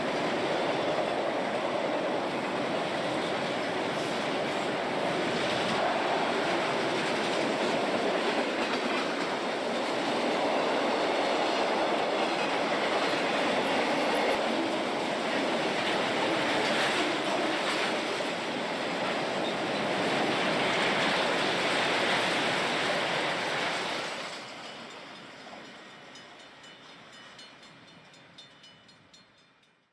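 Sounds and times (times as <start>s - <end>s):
train rolling on rails: 0.0s - 29.9s.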